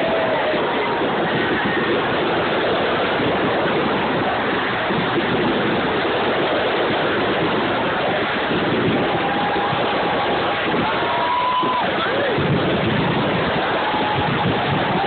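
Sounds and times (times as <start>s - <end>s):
fireworks and crowd noise: 0.0s - 15.0s.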